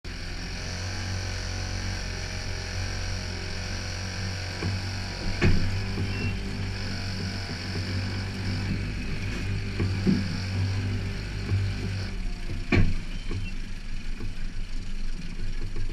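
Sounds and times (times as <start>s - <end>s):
outboard motor idling: 0.1s - 15.9s.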